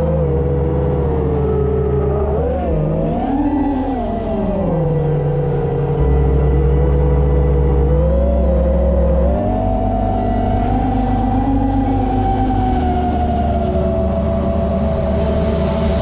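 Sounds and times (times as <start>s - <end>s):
drone motors whining: 0.0s - 16.0s
low steady drone: 0.0s - 16.0s.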